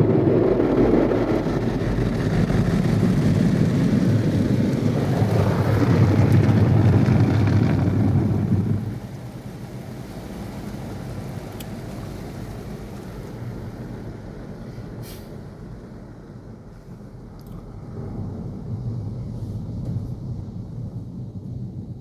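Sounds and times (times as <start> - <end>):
car wash brushes rumbling: 0.0 - 22.0.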